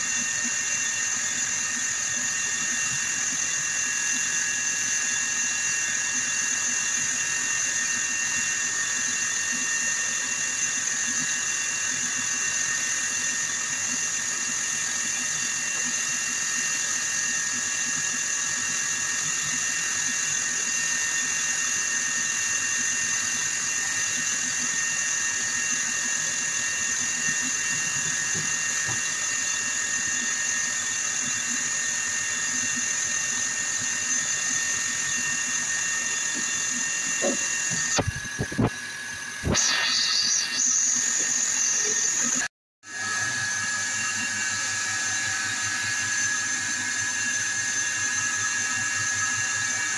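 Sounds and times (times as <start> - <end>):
lathe motor whine: 0.0 - 49.9.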